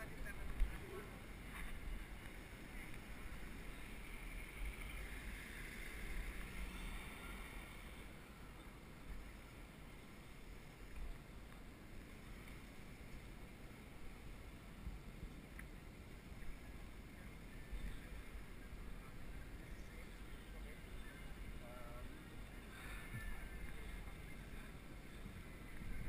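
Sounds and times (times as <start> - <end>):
faint street noise: 0.0 - 26.0.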